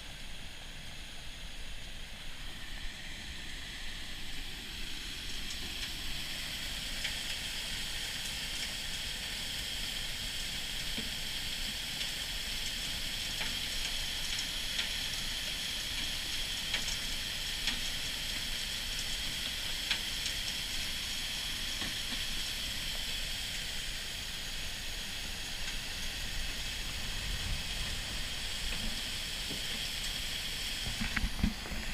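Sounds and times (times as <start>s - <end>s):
flood water rushing: 0.4s - 11.5s, 13.1s - 31.9s.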